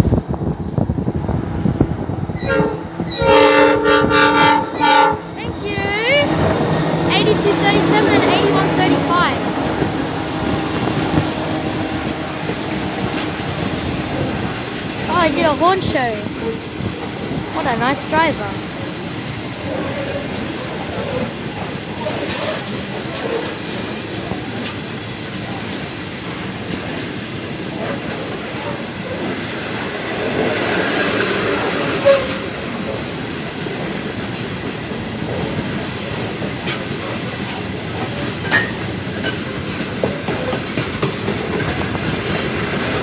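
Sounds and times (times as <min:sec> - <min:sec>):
rumble of train wheels on rail: 0:00.0 - 0:43.0.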